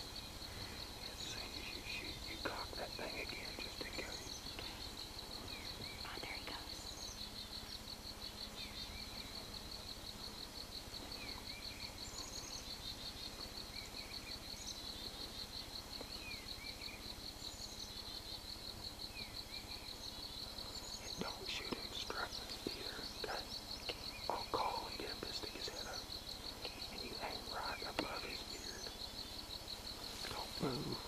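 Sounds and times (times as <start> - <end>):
insects or frogs trilling: 0.0 - 31.0.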